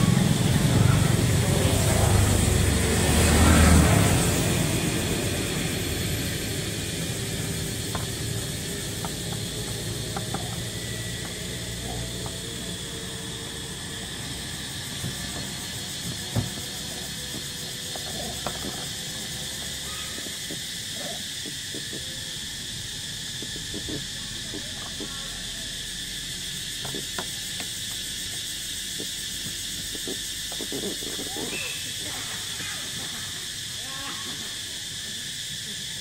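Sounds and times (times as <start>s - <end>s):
high insect chorus: 0.0s - 36.0s.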